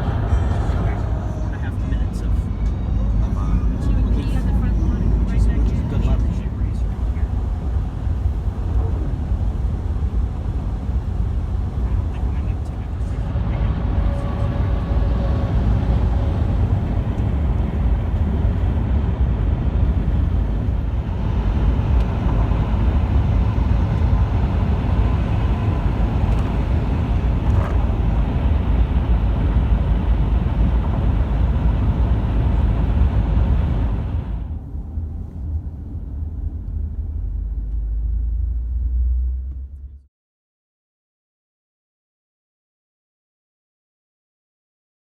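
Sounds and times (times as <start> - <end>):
heavy truck traffic rumble: 0.0 - 40.0.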